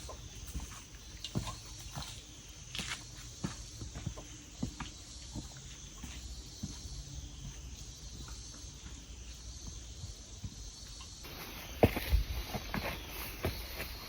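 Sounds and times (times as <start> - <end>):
footsteps on a trail: 0.0 - 14.0
steady high hiss: 2.3 - 14.0.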